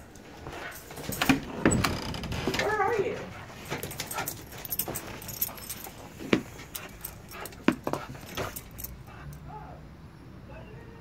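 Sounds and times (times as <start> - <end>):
collar tags jingling: 0.0 - 9.5.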